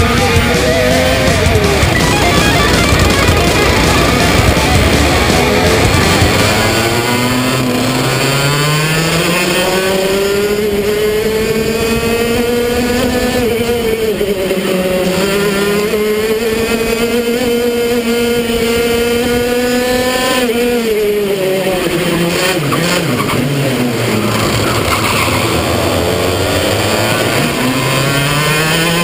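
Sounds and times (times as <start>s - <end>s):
racing kart engine: 0.0s - 29.0s.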